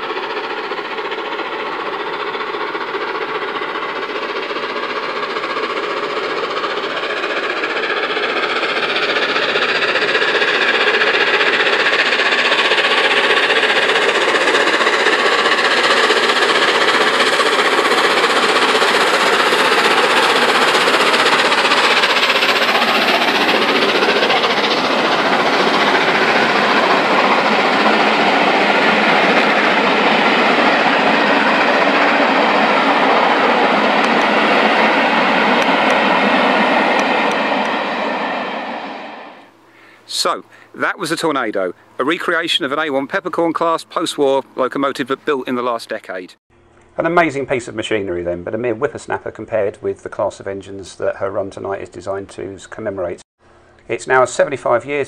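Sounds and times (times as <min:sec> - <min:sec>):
train rushing past on rails: 0:00.0 - 0:46.3.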